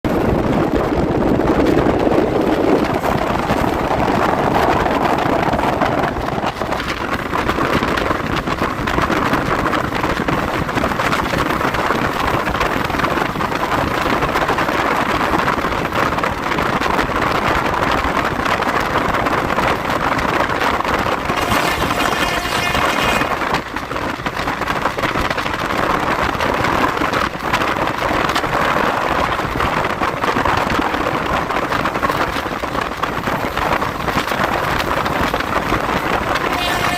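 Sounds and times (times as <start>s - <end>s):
train running fast: 0.0s - 36.9s
wind buffeting microphone: 0.0s - 36.9s.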